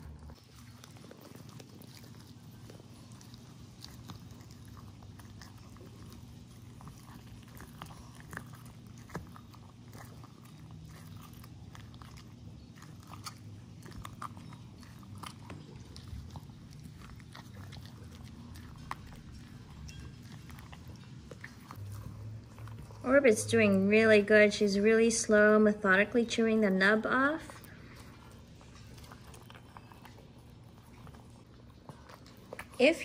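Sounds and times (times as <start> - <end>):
dog chewing hard chew: 0.0 - 33.0.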